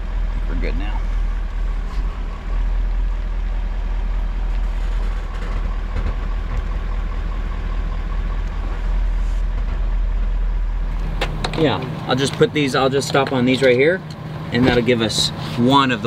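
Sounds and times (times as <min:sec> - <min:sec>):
truck engine running at low speed: 0:00.0 - 0:16.0.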